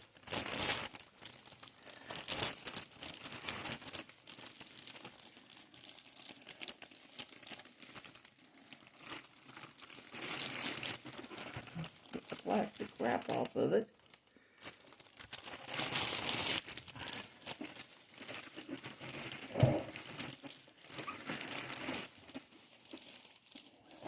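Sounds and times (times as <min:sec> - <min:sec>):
plastic wrapping crinkling: 0:00.0 - 0:24.0.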